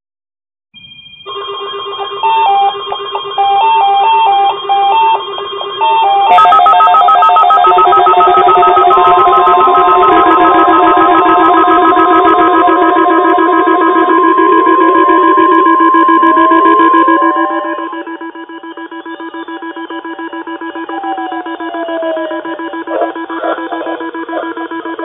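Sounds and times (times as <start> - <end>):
electronic alarm beeping: 0.8 - 25.0
siren-like sweeps: 0.8 - 25.0
steady alarm tones: 0.8 - 25.0.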